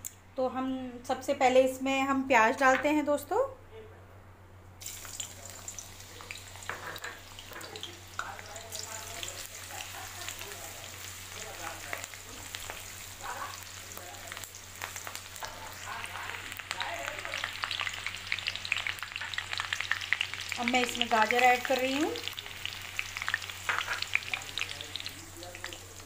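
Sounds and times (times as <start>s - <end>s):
onion sizzling in hot oil: 4.8s - 26.0s.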